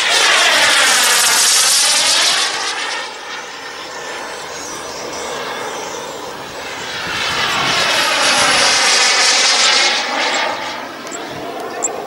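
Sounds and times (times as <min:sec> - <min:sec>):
model jet turbine passing: 0:00.0 - 0:12.0.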